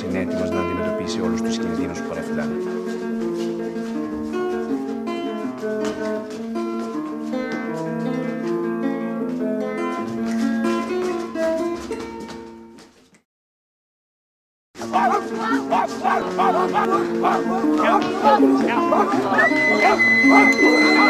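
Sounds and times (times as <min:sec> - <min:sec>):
acoustic guitar music: 0:00.0 - 0:12.9, 0:14.8 - 0:21.0.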